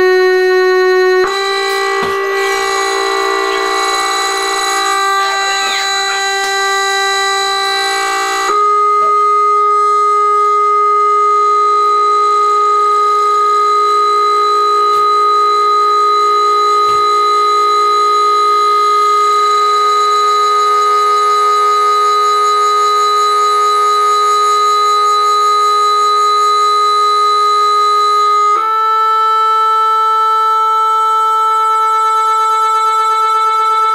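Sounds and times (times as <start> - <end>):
steady sine-wave tone: 0.0 - 33.9.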